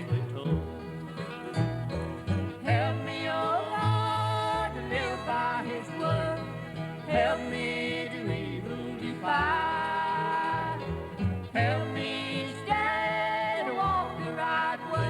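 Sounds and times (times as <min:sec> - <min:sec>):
country gospel song: 0:00.0 - 0:15.0.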